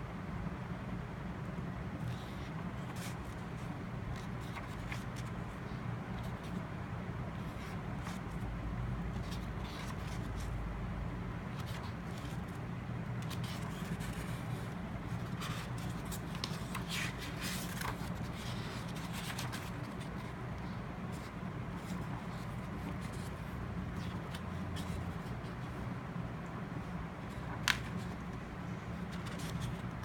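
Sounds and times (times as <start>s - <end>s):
steady low hum: 0.0s - 30.0s
paper pages rustling and scraping: 2.0s - 6.6s, 7.3s - 10.6s, 11.4s - 25.9s, 26.7s - 30.0s.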